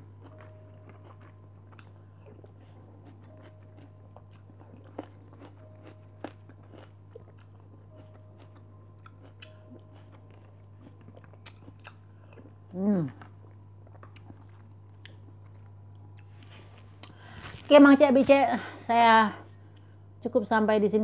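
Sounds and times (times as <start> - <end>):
person chewing food: 0.0 - 17.7
low hum: 0.0 - 21.0.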